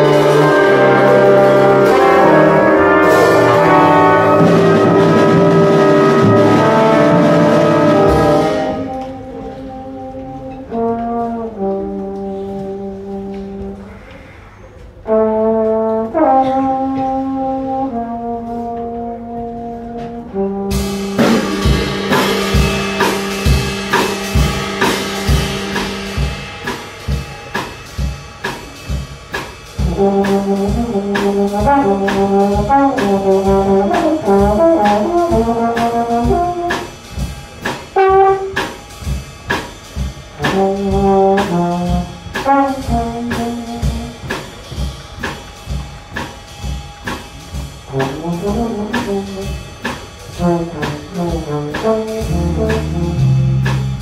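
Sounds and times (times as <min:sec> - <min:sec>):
brass and saxophones chords: 0:00.0 - 0:14.2, 0:14.8 - 0:54.0
drum kit with cymbals: 0:00.0 - 0:54.0.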